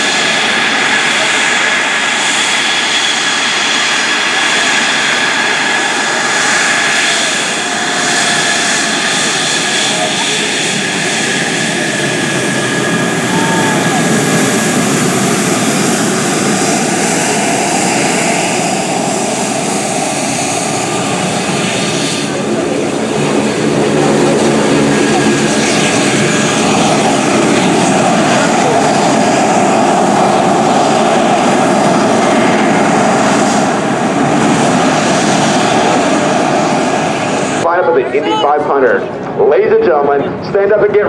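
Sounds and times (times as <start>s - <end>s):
jet engine whine and roar: 0.0s - 41.0s.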